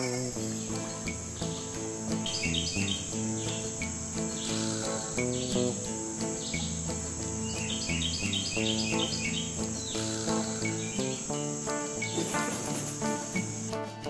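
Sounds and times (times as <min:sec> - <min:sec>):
instrumental background music: 0:00.0 - 0:14.0.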